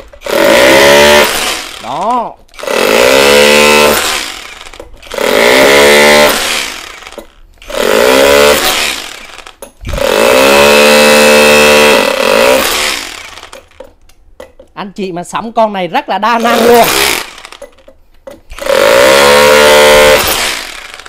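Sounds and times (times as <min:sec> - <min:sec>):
rotary hammer chiselling concrete: 0:00.0 - 0:14.7, 0:16.4 - 0:21.0.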